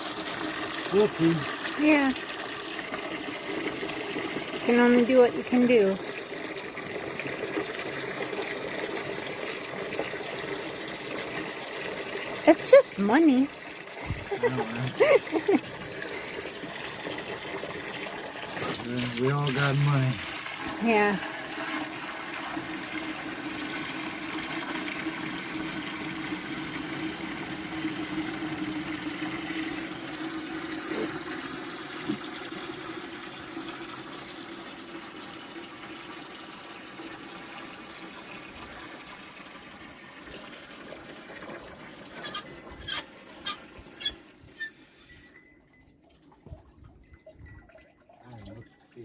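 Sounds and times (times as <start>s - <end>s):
water running into container: 0.0s - 49.0s.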